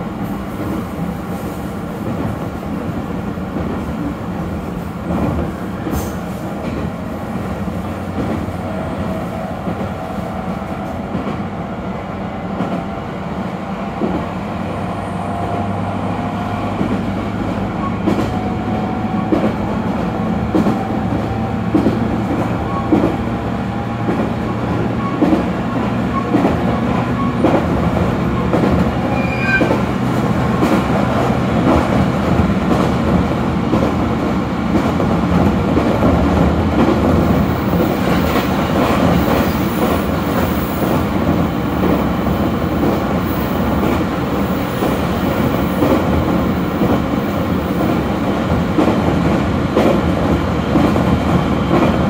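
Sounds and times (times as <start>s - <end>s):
clickety-clack of rail joints: 0.0s - 52.0s
train rumbling on track: 0.0s - 52.0s.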